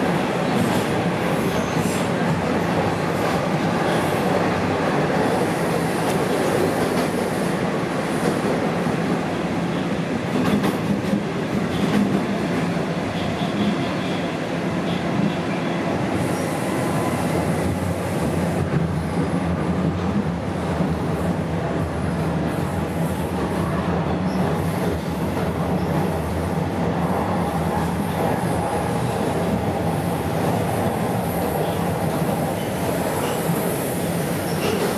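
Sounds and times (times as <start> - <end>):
train wheels on rails: 0.0 - 34.9.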